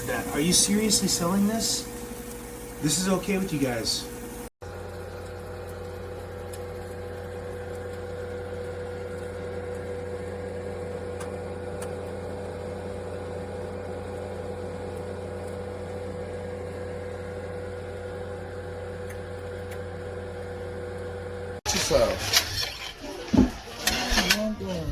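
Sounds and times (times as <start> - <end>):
air fryer fan humming: 0.0 - 24.9.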